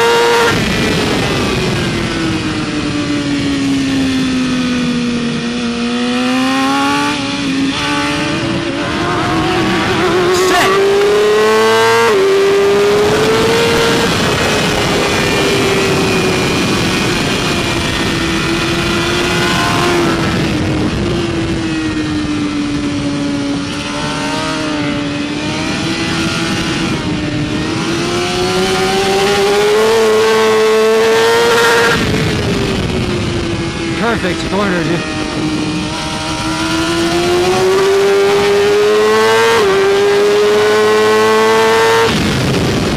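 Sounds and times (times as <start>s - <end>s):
motorcycle engine revving: 0.0s - 42.9s
wind rush: 0.0s - 42.9s.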